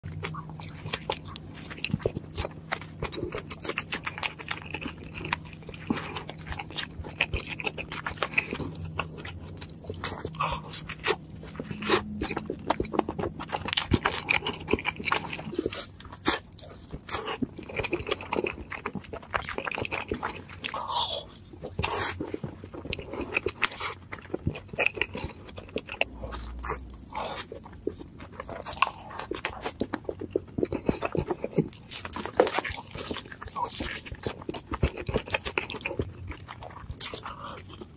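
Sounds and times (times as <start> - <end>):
biting and chewing food: 0.0 - 37.9
low steady hum: 0.0 - 37.9.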